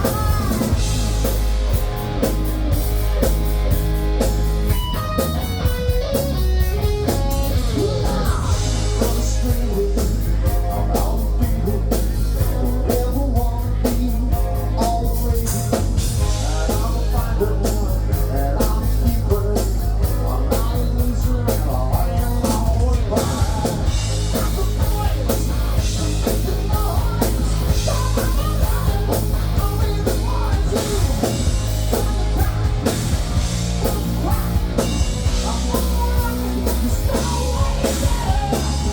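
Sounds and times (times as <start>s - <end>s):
person singing: 0.0s - 1.0s, 7.4s - 38.9s
bass guitar: 0.0s - 38.9s
drum kit: 0.0s - 38.9s
electric guitar: 0.0s - 38.9s.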